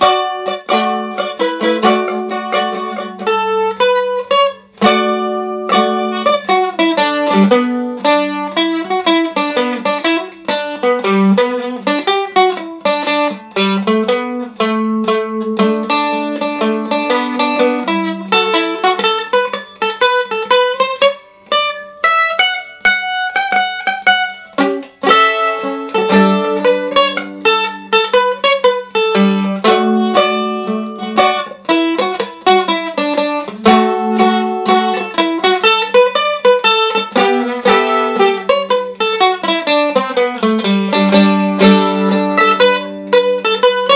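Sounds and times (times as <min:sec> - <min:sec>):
mandolin playing: 0:00.0 - 0:43.9.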